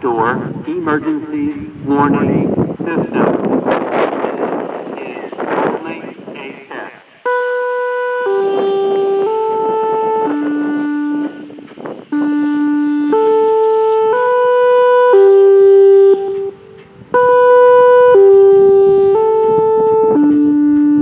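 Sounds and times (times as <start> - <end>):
slow wind instrument tune: 3.2 - 21.0.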